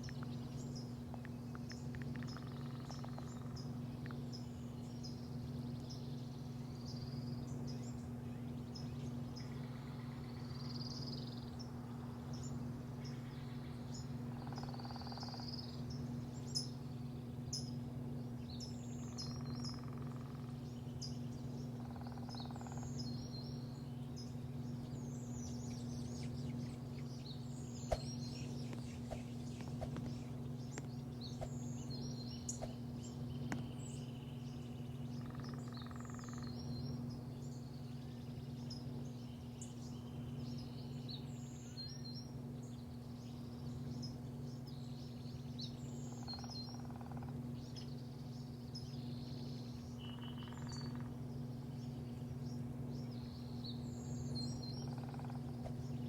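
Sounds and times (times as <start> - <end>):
low machine hum: 0.0 - 56.0
small birds chirping: 0.0 - 56.0.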